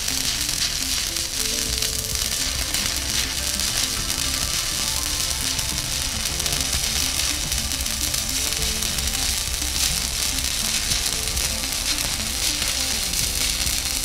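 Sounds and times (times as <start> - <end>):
background music: 0.0 - 14.0
welding arc crackling: 0.0 - 14.0.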